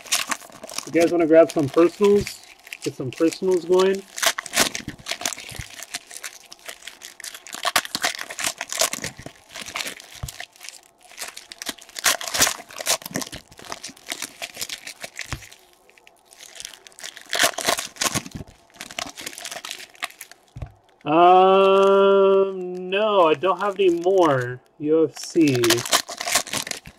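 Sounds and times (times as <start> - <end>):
plastic packaging tearing and crinkling: 0.0 - 24.6, 25.2 - 26.9.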